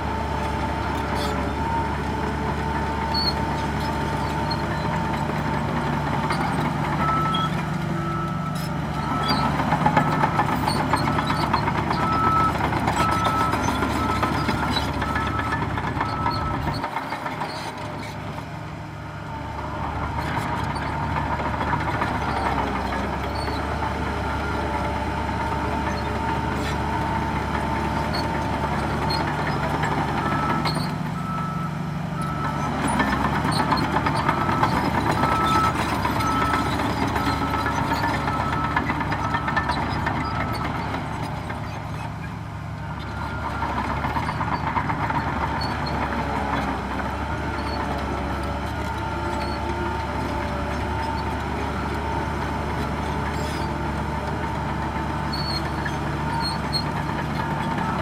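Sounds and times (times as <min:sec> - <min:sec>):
heavy diesel engines working: 0:00.0 - 0:58.0.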